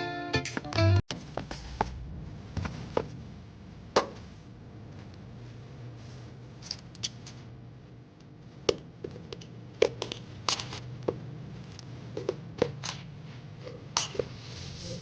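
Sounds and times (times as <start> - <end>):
low steady hum: 1.1 - 15.0.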